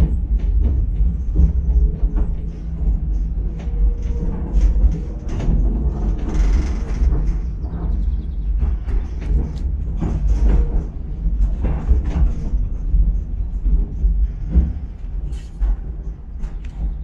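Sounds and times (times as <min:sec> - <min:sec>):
knocks and rattles: 0:00.0 - 0:17.0
tram carriage rumbling: 0:00.0 - 0:17.0.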